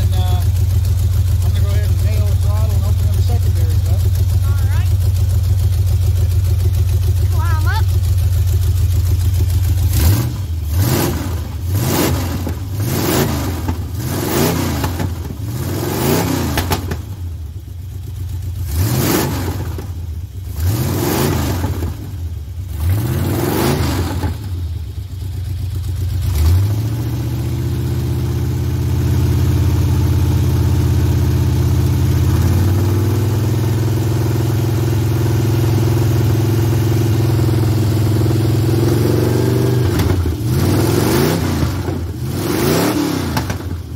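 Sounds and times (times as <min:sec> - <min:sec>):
engine revving: 0:00.0 - 0:17.3, 0:18.6 - 0:24.8, 0:26.1 - 0:43.9.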